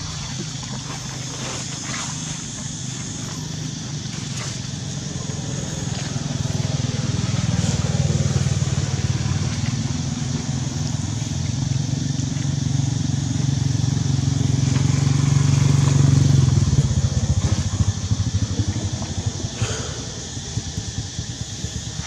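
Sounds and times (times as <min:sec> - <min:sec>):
engine hum with pulsing beat: 0:00.0 - 0:22.0.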